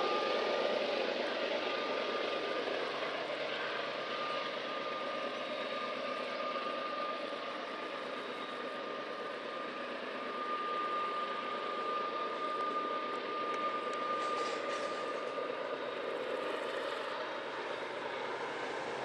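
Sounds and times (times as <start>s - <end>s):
locomotive diesel engine rumbling: 0.0s - 19.0s
thin high whine: 0.0s - 19.0s.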